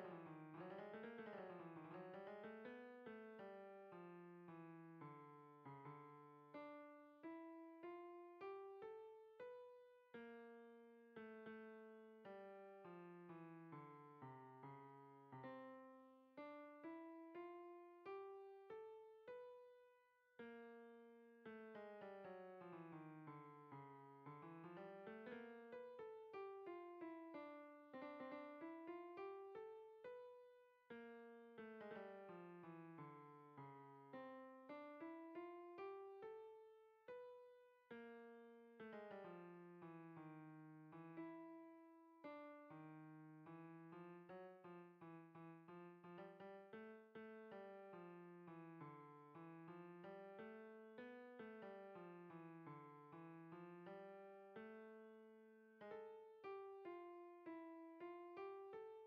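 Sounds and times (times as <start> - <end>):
slow electric piano melody: 0.0 - 59.0.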